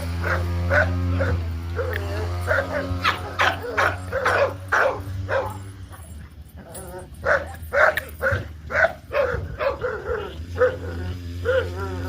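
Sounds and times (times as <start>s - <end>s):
puppies yipping and whining: 0.0s - 12.0s.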